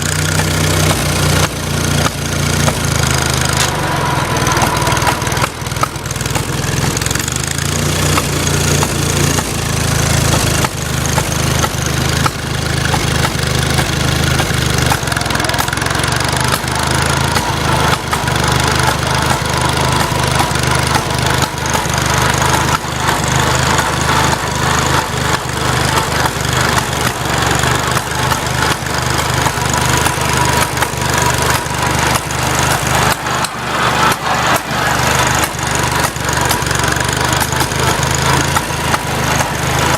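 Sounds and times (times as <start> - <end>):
engine popping: 0.0 - 39.9
tractor engine running: 0.0 - 39.9.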